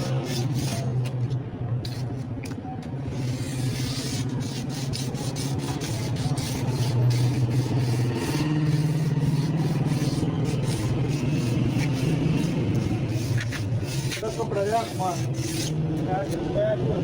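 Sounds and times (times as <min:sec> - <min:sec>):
scraping sheet metal by hand: 0:00.0 - 0:01.2, 0:03.0 - 0:16.4.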